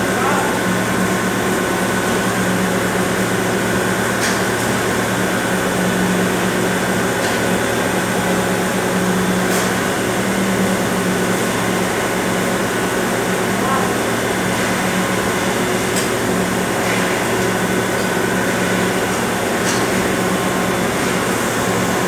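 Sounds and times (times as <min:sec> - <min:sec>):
industrial furnace hum and rushing: 0:00.0 - 0:22.0.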